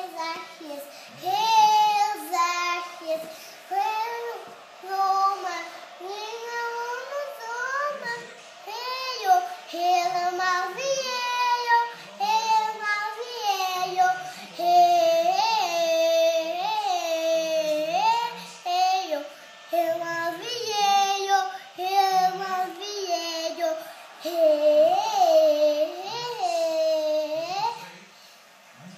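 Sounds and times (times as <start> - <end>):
girl singing unaccompanied: 0.0 - 27.8.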